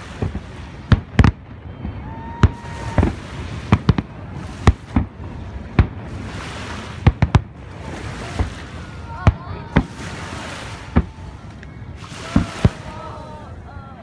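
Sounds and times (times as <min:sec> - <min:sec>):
fireworks bursting: 0:00.0 - 0:13.2.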